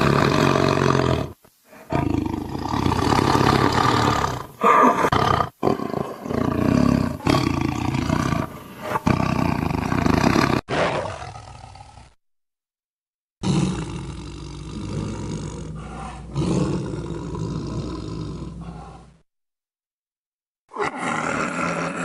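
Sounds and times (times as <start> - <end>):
tiger roaring: 0.0 - 12.1, 13.4 - 19.2, 20.7 - 22.0.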